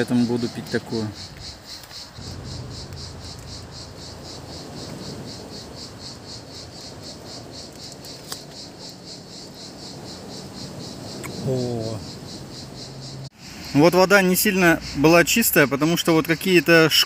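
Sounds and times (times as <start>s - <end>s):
insect calling in pulses: 0.0s - 13.9s.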